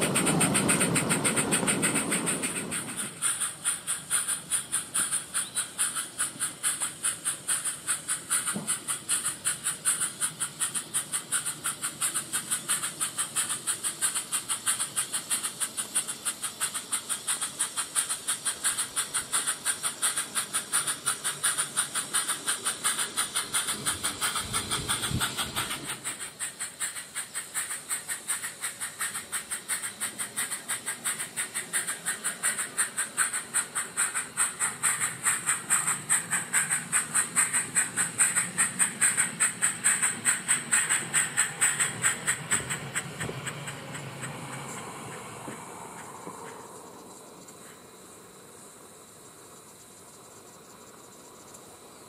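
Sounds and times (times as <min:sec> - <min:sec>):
steam locomotive chuffing: 0:00.0 - 0:49.5.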